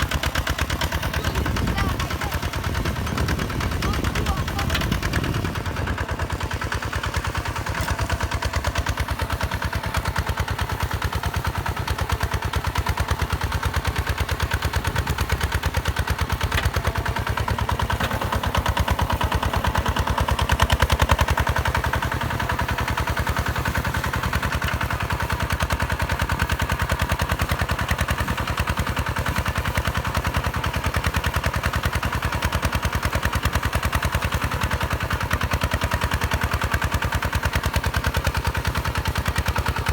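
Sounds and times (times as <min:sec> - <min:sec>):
tractor diesel engine chugging: 0:00.0 - 0:39.9.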